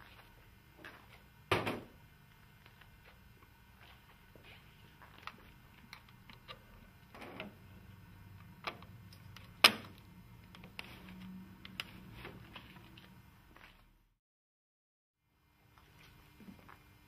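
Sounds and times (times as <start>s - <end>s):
low steady hum: 0.0s - 14.1s.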